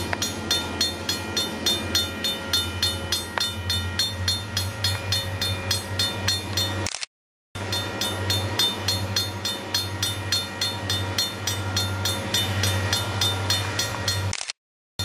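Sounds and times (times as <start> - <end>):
crossing warning bell ringing: 0.0 - 6.9, 7.6 - 14.4
diesel locomotive rumble: 0.0 - 14.6.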